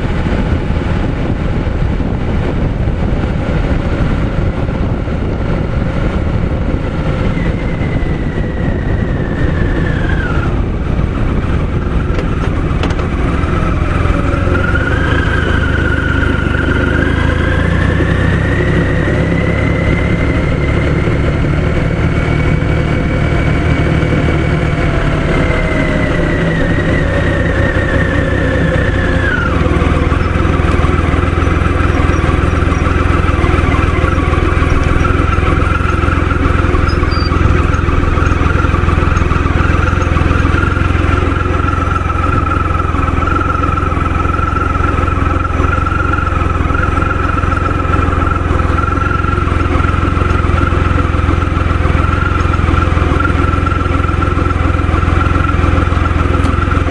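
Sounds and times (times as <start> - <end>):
motorcycle engine slowing and idling: 0.0 - 56.9.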